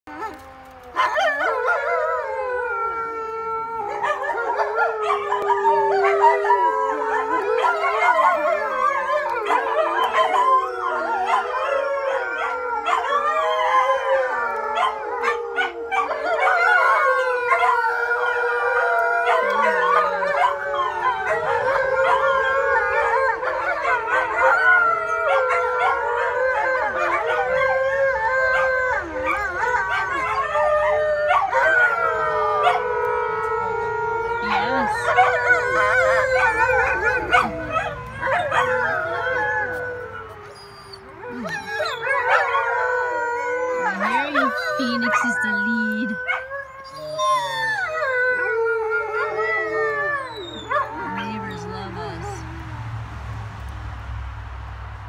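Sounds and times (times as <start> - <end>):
dogs howling in chorus: 0.1 - 53.4.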